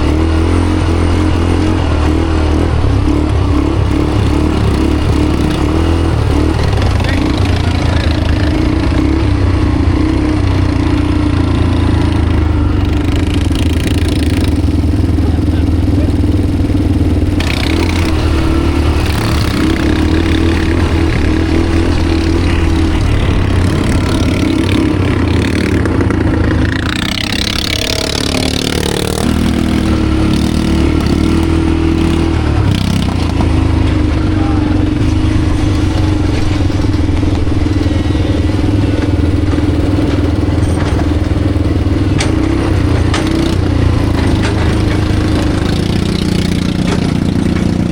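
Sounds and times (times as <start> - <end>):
atv engine running: 0.0 - 47.9.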